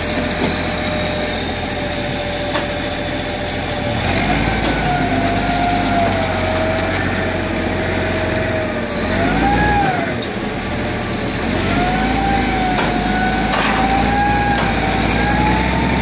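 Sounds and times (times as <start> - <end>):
crane engine rumbling: 0.0 - 16.0.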